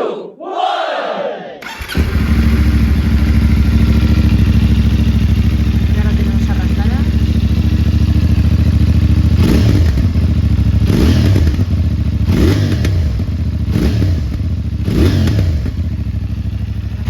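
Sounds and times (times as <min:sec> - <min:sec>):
motorcycle engine idling: 0:01.6 - 0:17.0
motorcycle engine revving: 0:01.6 - 0:17.0.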